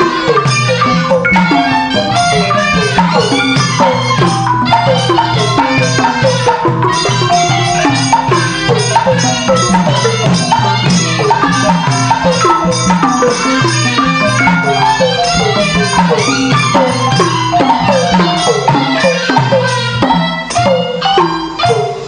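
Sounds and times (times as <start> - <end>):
steady drum beat: 0.0 - 20.6
tuned struck notes: 0.0 - 21.6.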